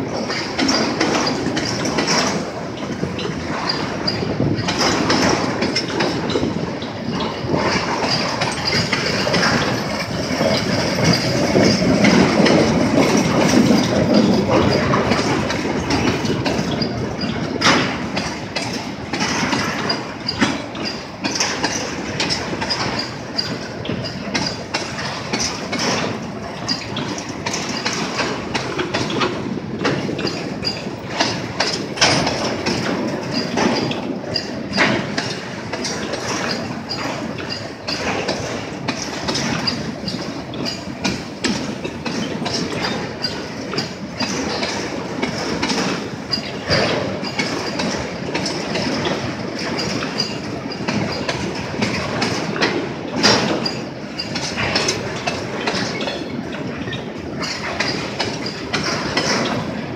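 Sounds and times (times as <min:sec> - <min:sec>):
freight wagons rumbling: 0:00.0 - 0:59.9
wheels clacking over rail joints: 0:00.0 - 0:59.9.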